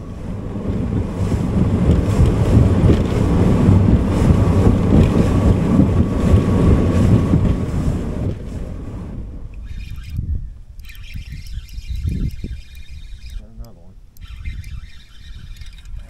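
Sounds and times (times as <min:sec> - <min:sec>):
boat engine drone: 0:00.0 - 0:16.0
wind buffeting microphone: 0:00.0 - 0:16.0.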